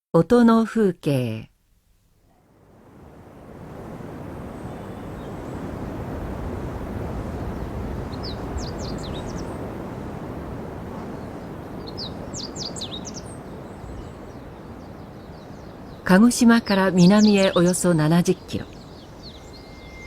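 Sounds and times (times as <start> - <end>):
songbird singing: 3.6 - 20.0.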